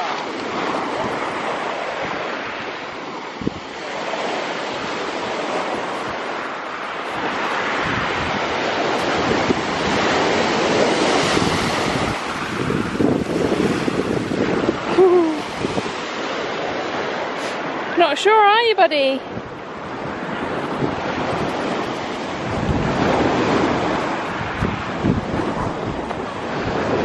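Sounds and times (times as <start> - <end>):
surf washing over shingle: 0.0 - 27.0
wind buffeting microphone: 0.0 - 27.0.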